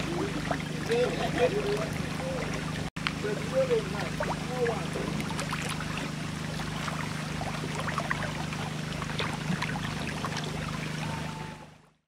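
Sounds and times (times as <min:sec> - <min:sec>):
fish splashing in water: 0:00.0 - 0:11.9
low motor hum: 0:00.0 - 0:12.0.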